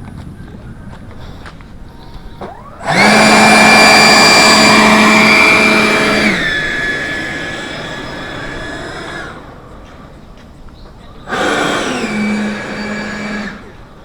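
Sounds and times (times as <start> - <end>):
electric ducted fan whine: 0.0 - 14.0.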